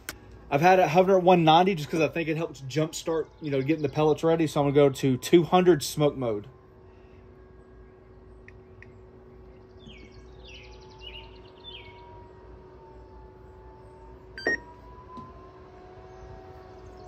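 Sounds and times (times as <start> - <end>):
distant siren wailing: 0.0 - 17.0
grill humming: 0.0 - 17.0
birds chirping: 0.2 - 17.0.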